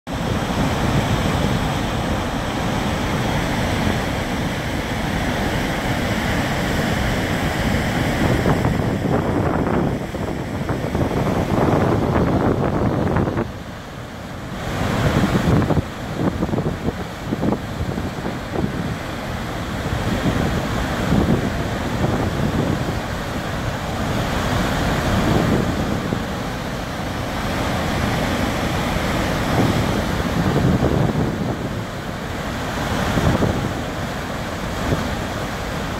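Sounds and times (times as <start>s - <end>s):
water rushing over spillway: 0.1s - 35.9s
wind buffeting microphone: 0.1s - 35.9s.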